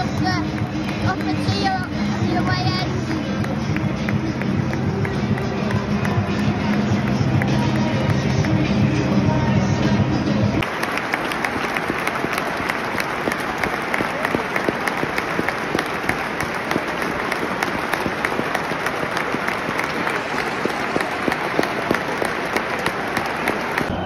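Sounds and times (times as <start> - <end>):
stadium crowd applauding: 0.0 - 8.8, 10.6 - 24.0.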